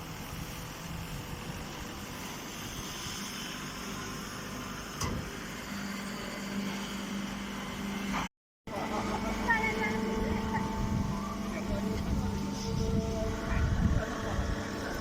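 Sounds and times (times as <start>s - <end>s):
baler mechanical hum: 0.0s - 15.0s.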